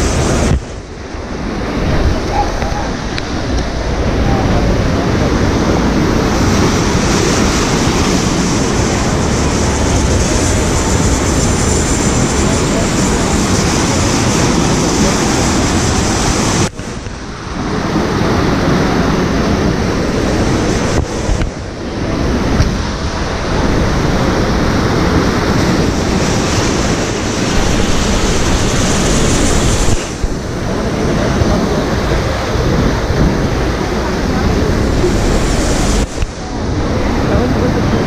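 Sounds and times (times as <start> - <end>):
churning white water: 0.0 - 38.0
wind buffeting microphone: 0.0 - 38.0.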